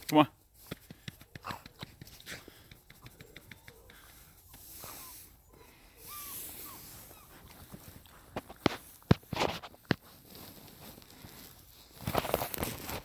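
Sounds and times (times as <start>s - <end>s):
puppies sniffing and snuffling: 0.4s - 13.0s.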